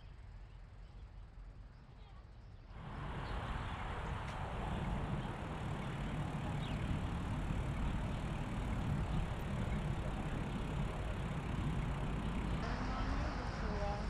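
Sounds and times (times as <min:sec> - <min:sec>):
wind rumble on microphone: 0:02.7 - 0:14.0.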